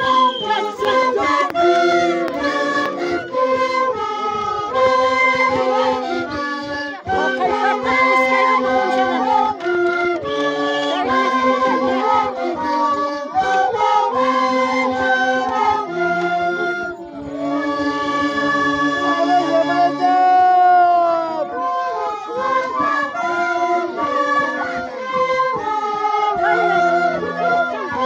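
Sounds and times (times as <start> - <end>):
cane flutes playing: 0.0 - 28.0
people singing: 0.0 - 28.0.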